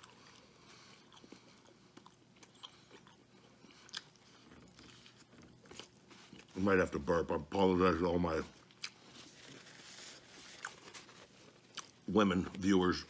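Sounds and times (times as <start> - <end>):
chewing burger: 0.0 - 12.8.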